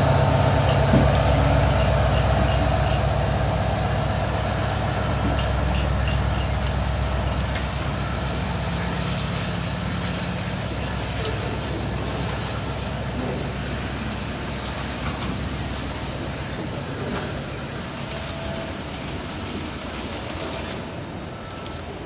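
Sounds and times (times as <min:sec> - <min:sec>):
diesel locomotive engine drone: 0:00.0 - 0:22.0
wagons rumbling on rails: 0:00.0 - 0:22.0.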